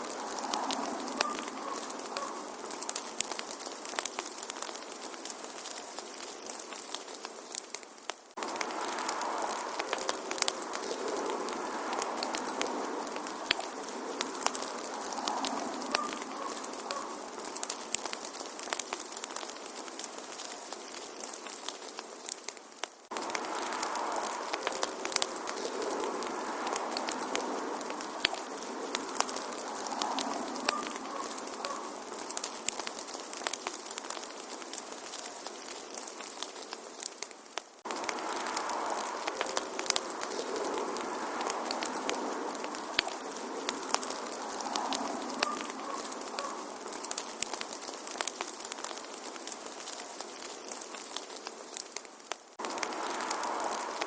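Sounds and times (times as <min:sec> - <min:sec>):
steady fire hiss: 0:00.0 - 0:54.0
wood fire crackling: 0:00.0 - 0:54.0.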